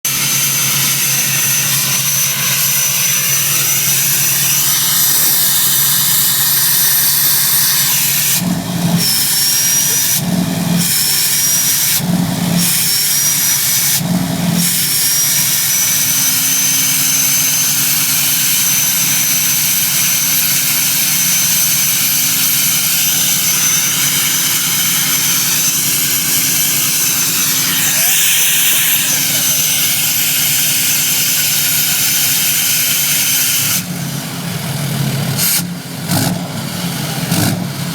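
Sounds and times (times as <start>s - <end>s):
engine running: 0.0s - 37.9s
turbocharger whistling: 0.1s - 37.9s.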